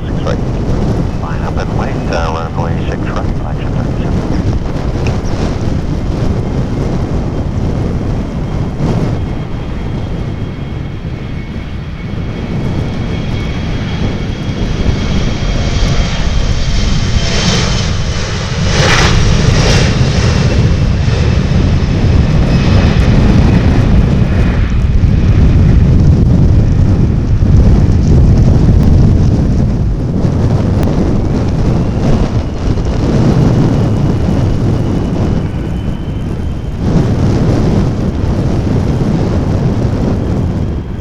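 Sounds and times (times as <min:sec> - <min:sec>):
jet airliner engine whine: 0:00.0 - 0:41.0
wind buffeting microphone: 0:00.0 - 0:41.0.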